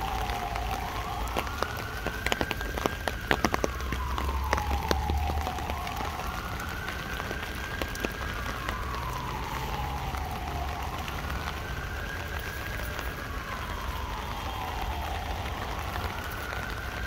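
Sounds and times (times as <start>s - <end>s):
rain drumming on an umbrella: 0.0s - 17.0s
siren wailing: 0.0s - 17.0s.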